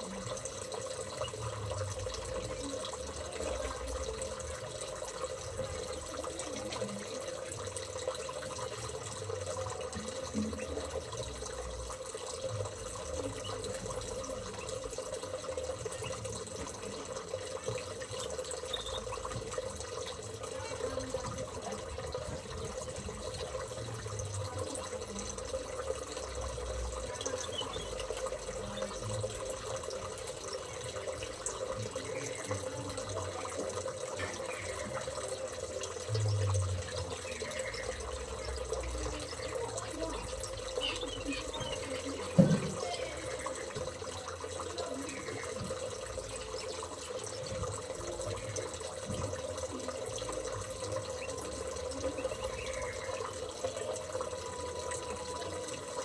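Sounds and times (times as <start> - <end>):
water running: 0.0 - 56.0.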